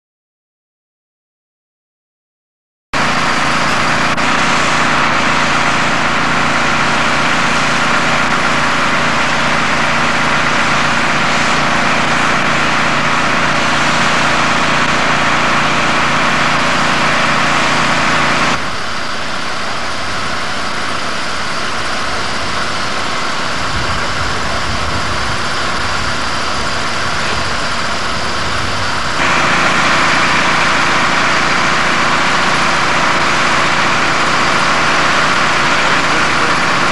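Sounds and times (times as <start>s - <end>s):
heavy vehicle engine idling: 3.0s - 36.9s.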